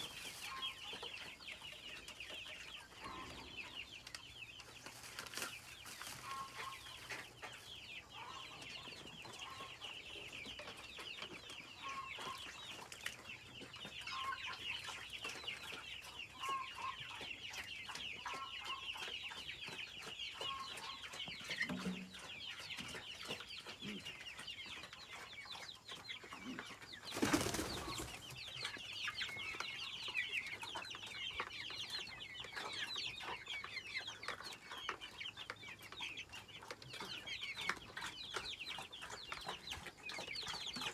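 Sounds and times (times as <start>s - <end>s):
chickens calling: 0.0s - 40.9s.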